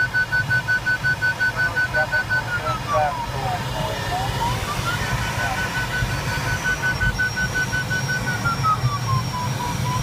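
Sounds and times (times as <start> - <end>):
airflow noise rumbling: 0.0 - 10.0
variometer rapid beeps: 0.0 - 10.0.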